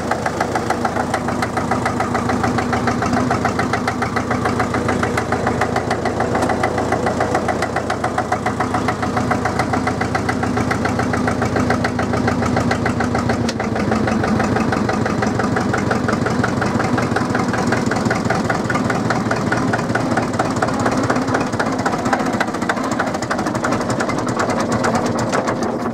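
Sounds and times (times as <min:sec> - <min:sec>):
diesel engine idling with knocking: 0:00.0 - 0:25.9.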